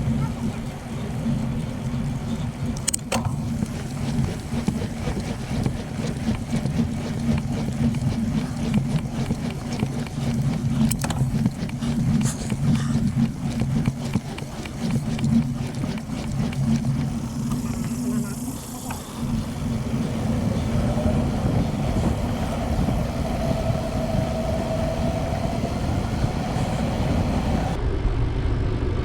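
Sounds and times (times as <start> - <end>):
bike clicks and rattles: 0.0 - 27.8
wind buffeting: 0.0 - 27.8
road rumble from bicycle: 0.0 - 29.0.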